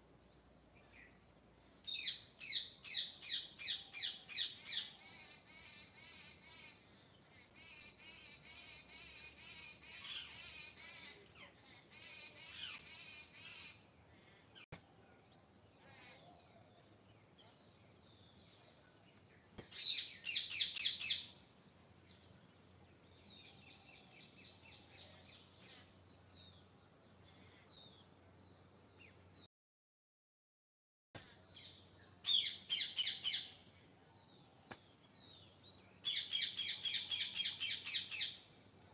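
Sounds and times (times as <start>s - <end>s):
songbirds singing and chirping: 0.0s - 29.5s, 31.2s - 38.9s.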